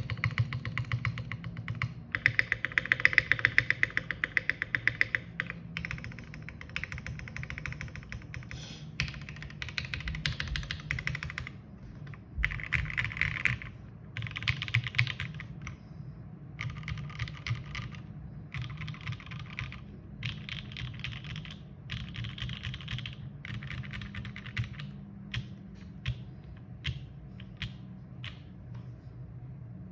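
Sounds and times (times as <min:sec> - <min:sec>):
mechanical keyboard typing: 0:00.0 - 0:15.8, 0:16.6 - 0:28.5.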